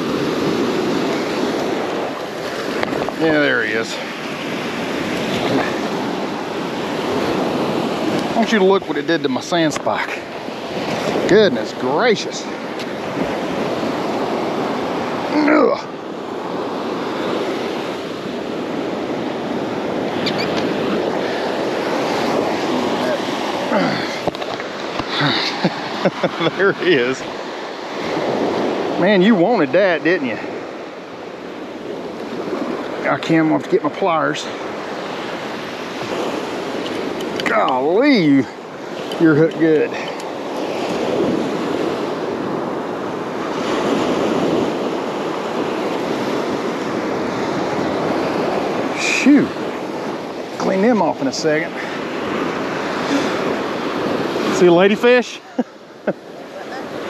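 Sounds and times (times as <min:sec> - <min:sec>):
ocean surf washing onto beach: 0:00.0 - 0:57.0.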